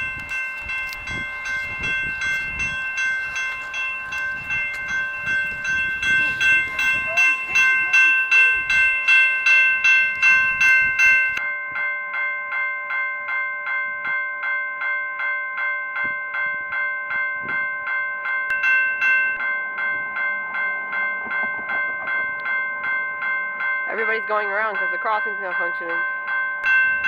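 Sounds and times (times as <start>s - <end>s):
railroad crossing bell ringing: 0.0s - 27.0s.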